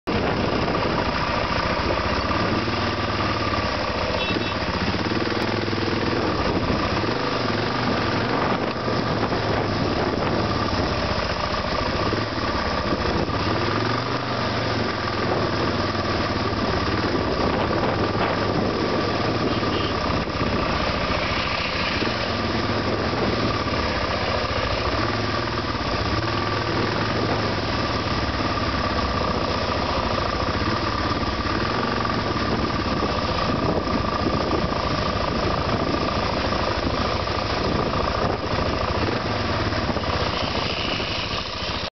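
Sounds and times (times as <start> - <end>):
car engines: 0.0 - 41.9
motorcycle engine idling and running: 0.0 - 41.9.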